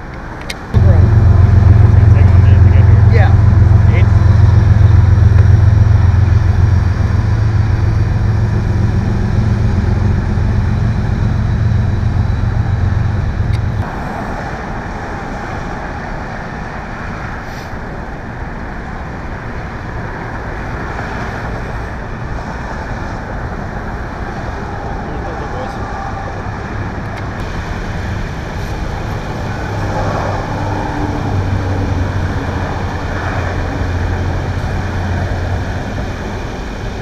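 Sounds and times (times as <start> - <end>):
engine and road rumble: 0.0 - 37.0
heavy engines idling: 0.0 - 37.0.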